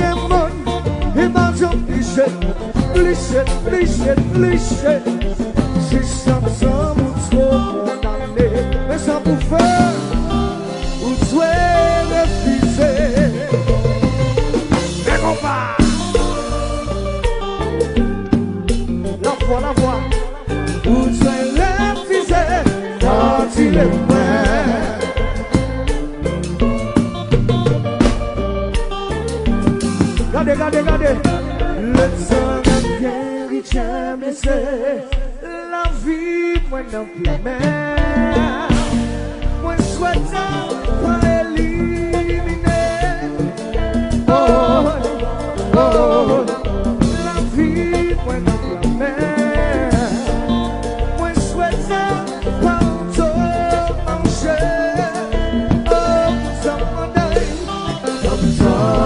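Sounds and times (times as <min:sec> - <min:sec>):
men singing into microphones: 0:00.0 - 0:17.5, 0:19.1 - 0:26.4, 0:30.1 - 0:59.0
bass: 0:00.0 - 0:34.7, 0:35.9 - 0:59.0
drums: 0:00.0 - 0:59.0
keyboard: 0:00.0 - 0:59.0
live band dance groove: 0:00.0 - 0:59.0.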